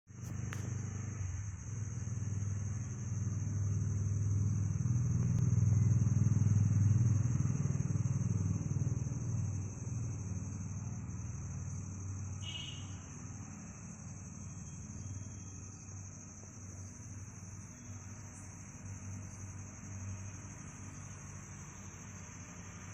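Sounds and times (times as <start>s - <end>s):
crickets chirring: 0.1s - 22.9s.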